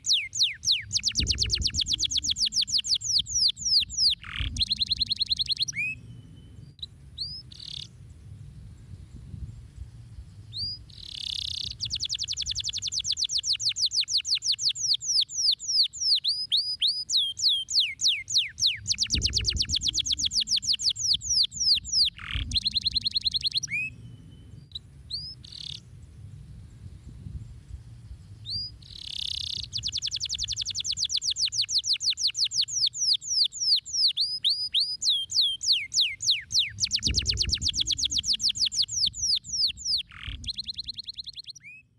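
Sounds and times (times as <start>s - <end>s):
canary singing trills: 0.0s - 8.0s, 10.5s - 25.9s, 28.4s - 41.9s.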